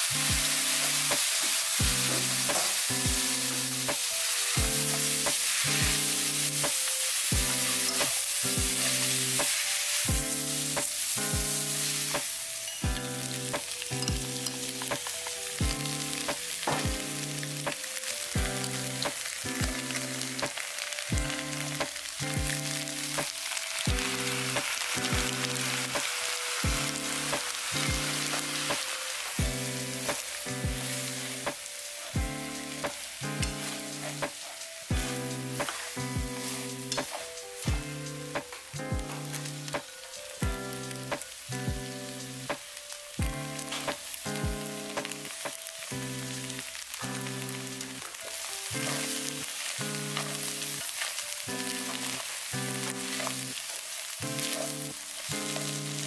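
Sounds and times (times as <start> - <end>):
food sizzling in oil: 0.0 - 56.0
soft background music with beat: 0.0 - 56.0.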